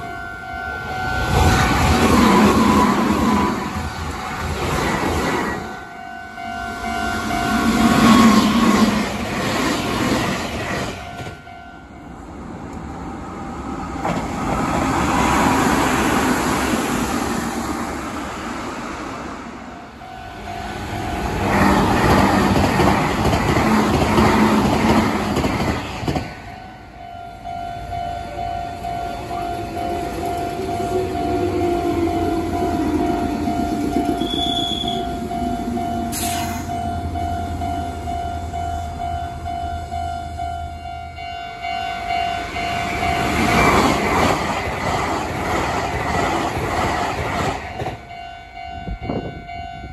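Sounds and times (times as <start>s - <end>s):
electric train passing: 0.0s - 49.9s.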